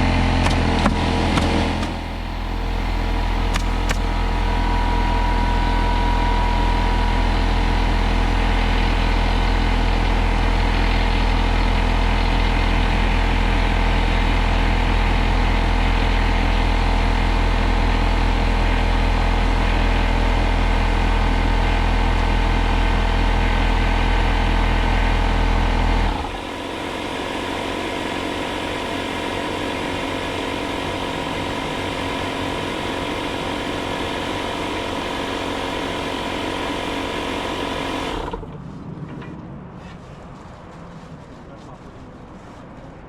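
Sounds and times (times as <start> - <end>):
motor humming: 0.0 - 38.6.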